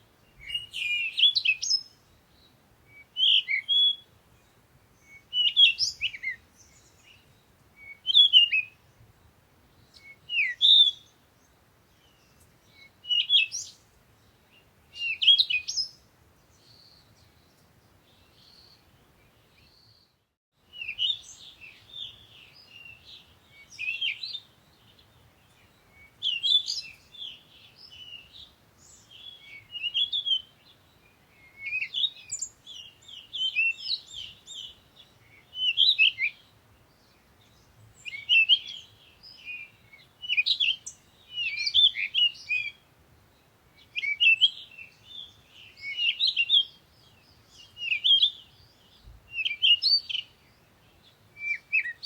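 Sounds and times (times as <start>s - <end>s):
songbirds chirping and singing: 0.2s - 52.0s.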